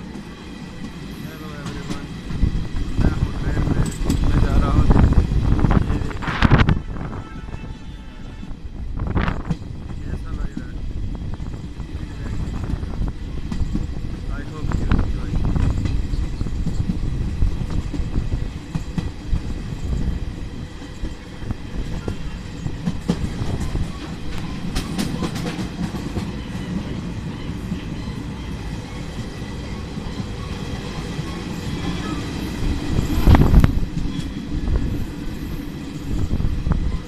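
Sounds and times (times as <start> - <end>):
wheels clacking over rail joints: 0.0 - 6.5, 9.2 - 37.0
passenger train rumbling: 0.0 - 37.0.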